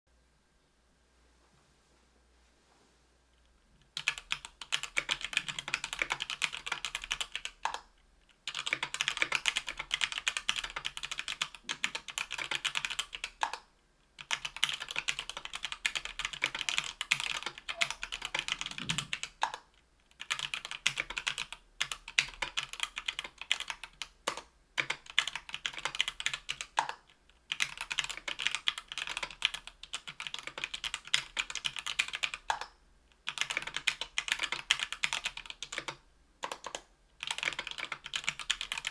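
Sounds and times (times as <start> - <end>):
fast typing on keyboard: 4.0 - 38.9.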